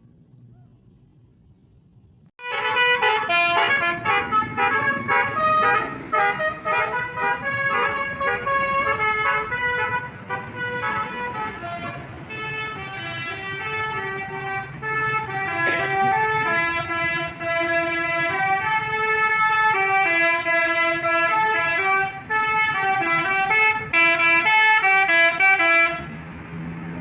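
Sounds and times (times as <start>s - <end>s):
multi-tone bus horn melody: 2.4s - 26.2s.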